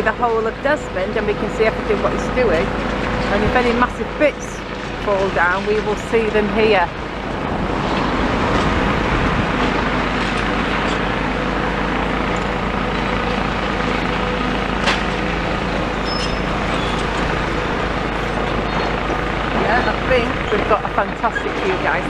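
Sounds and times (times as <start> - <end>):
low engine hum: 0.0 - 22.0
road traffic noise: 0.0 - 22.0.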